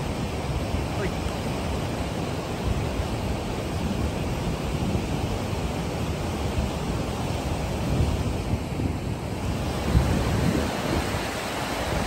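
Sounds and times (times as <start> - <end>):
river rushing over rocks: 0.0 - 12.0
wind rumbling on microphone: 0.0 - 12.0.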